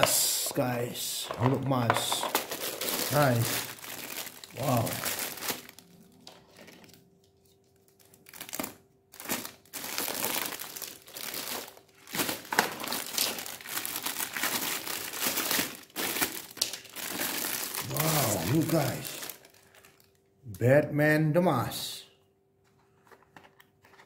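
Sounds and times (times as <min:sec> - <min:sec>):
plastic bag crinkling: 0:00.2 - 0:20.3.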